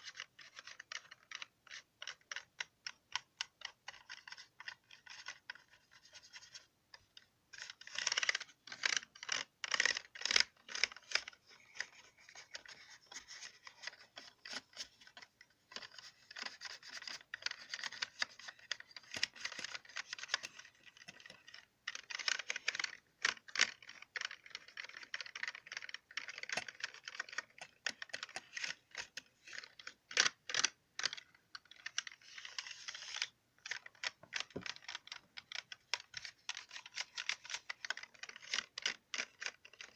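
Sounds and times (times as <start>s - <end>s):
scratching on keycaps: 0.0s - 39.9s.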